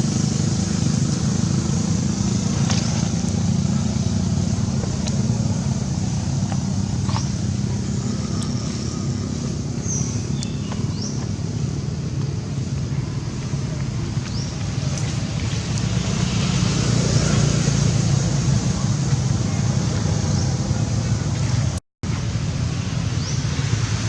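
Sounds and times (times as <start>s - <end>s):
low rumble: 0.0s - 23.9s.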